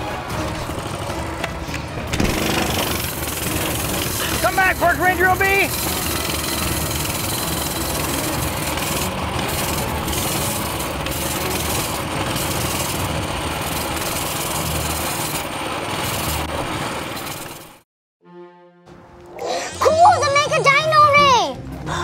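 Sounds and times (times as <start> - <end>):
small motorbike engine running: 0.0 - 17.8.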